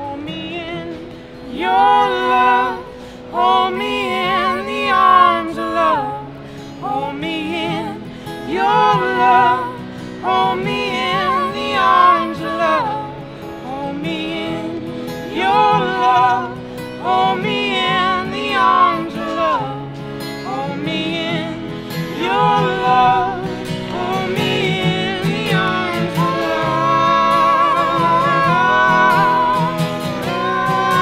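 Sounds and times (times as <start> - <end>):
person singing long wavering notes: 0.0 - 31.0
plucked string accompaniment: 0.0 - 31.0.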